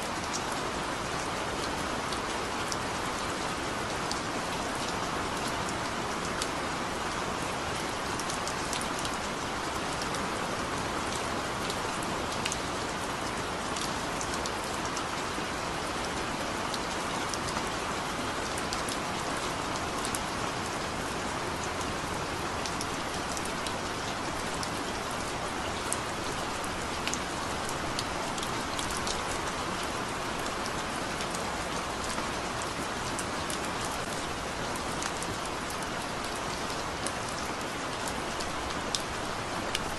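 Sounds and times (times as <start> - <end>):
heavy rain: 0.0 - 39.9
raindrops ticking on a surface: 0.1 - 39.9.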